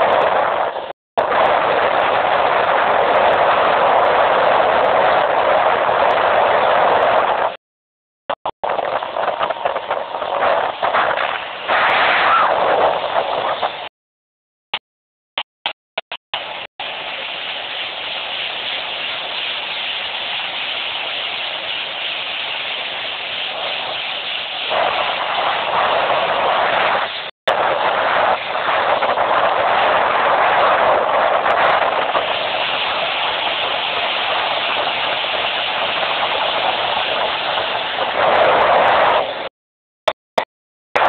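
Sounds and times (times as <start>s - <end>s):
speed boat rushing across water: 0.0s - 7.6s, 8.6s - 13.9s, 16.4s - 39.5s.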